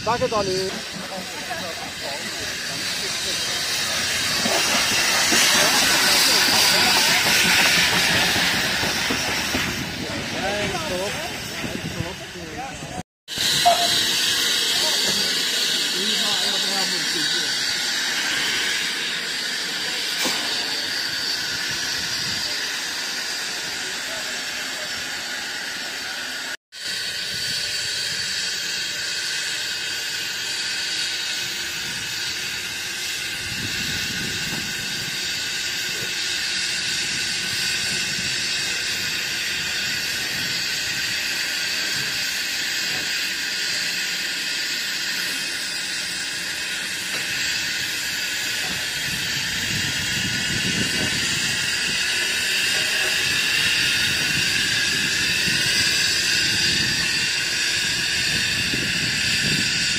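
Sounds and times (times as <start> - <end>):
locomotive venting steam hiss: 0.0 - 59.9.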